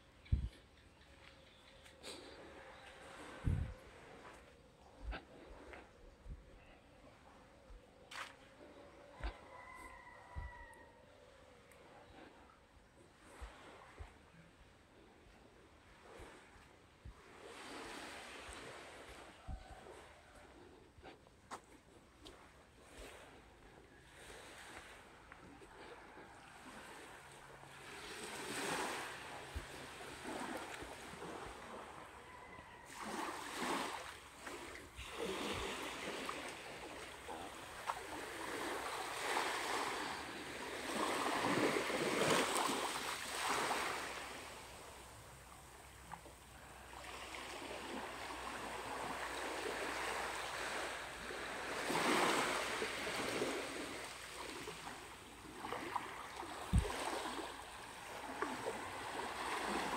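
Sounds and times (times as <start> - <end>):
small waves lapping on sand: 1.1 - 59.9.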